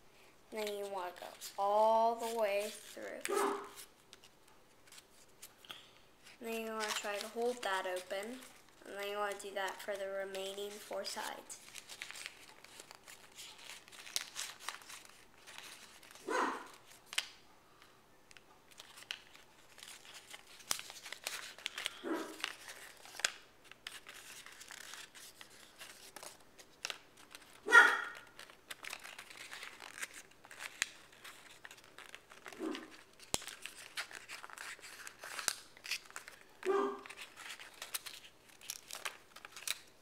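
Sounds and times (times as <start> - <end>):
paper crinkling and rustling: 0.6 - 17.4, 18.3 - 40.0.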